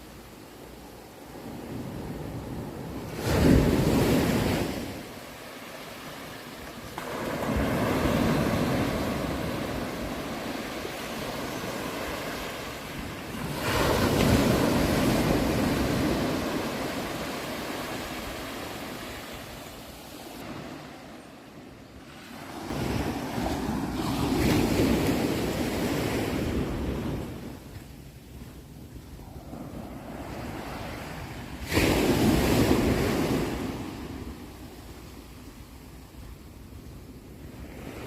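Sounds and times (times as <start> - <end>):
sea waves crashing on shore: 0.0 - 27.7, 29.2 - 36.0.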